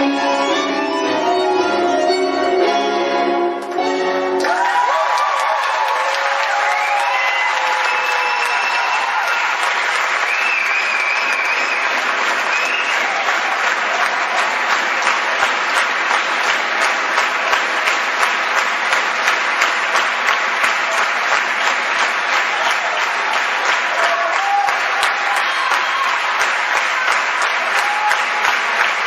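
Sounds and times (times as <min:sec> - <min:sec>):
audience applauding: 0:03.7 - 0:29.0.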